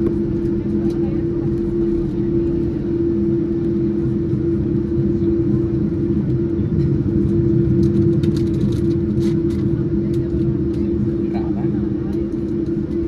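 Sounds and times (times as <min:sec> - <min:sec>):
jet airliner cabin drone: 0:00.0 - 0:13.0.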